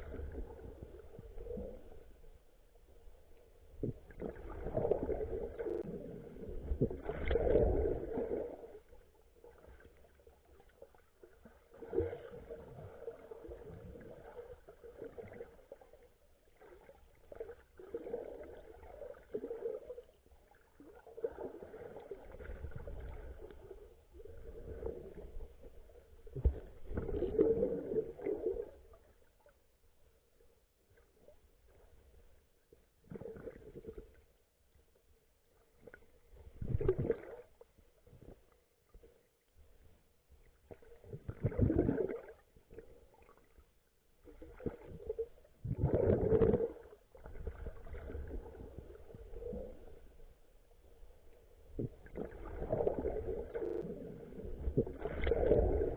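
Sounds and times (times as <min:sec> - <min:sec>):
water sloshing underwater: 0:00.0 - 0:55.9.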